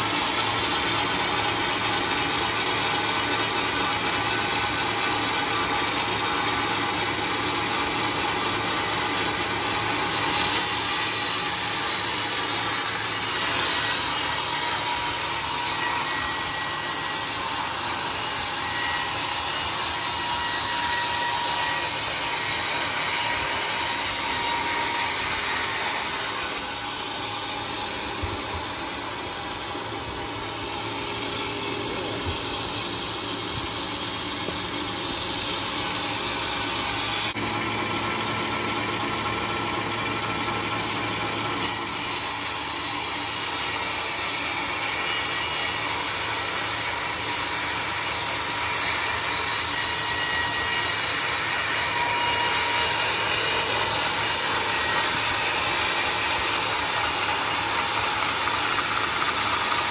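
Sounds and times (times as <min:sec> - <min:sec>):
band sawmill cutting log: 0:00.0 - 0:59.9.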